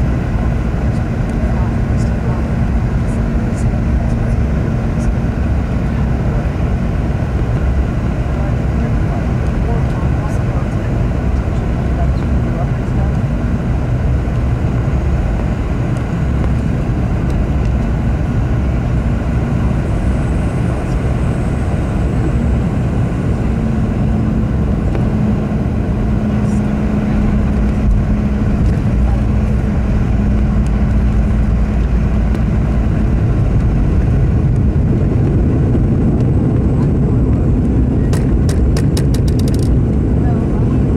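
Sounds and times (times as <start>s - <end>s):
aircraft engines roaring: 0.0s - 40.9s.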